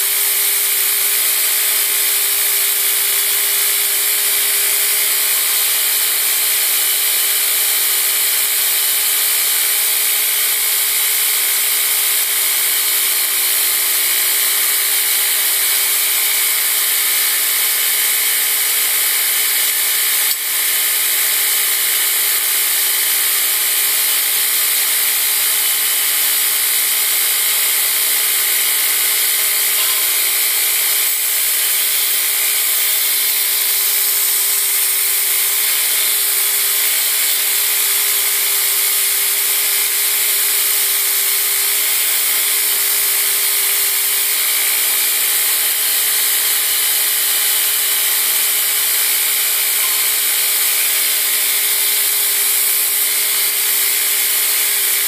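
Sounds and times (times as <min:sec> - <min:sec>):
belt grinder running: 0:00.0 - 0:55.0.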